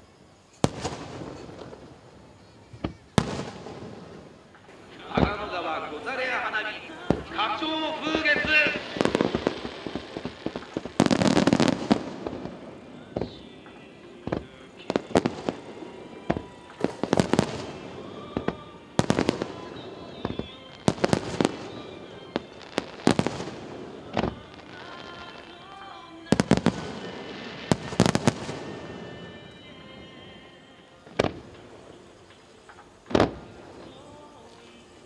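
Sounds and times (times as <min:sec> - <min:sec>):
fireworks bangs: 0:00.0 - 0:35.0.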